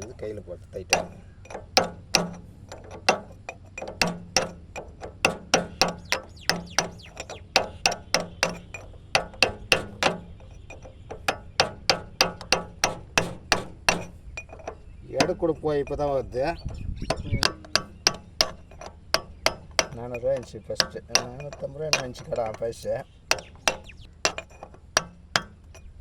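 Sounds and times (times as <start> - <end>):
hammer striking metal: 0.0 - 26.0.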